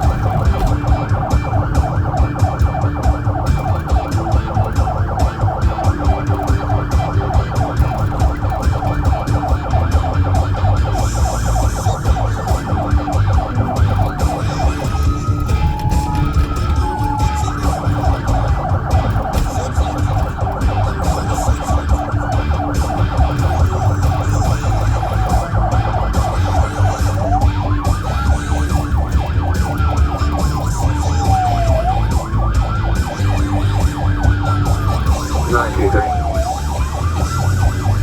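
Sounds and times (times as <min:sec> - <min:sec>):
low rumble of vehicle driving: 0:00.0 - 0:38.0
police siren yelping and wailing: 0:00.0 - 0:38.0.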